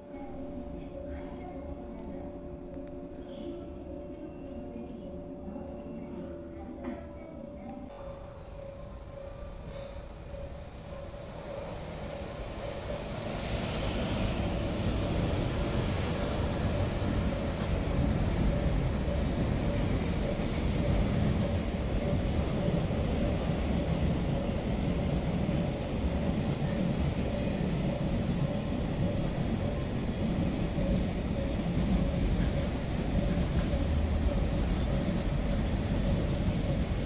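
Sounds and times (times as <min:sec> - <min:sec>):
freight train rumbling on rails: 0:00.0 - 0:37.0.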